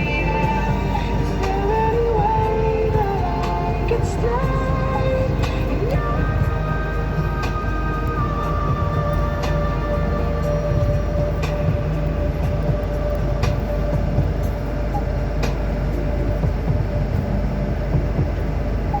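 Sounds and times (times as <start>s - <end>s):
vehicle low rumble: 0.0s - 19.0s.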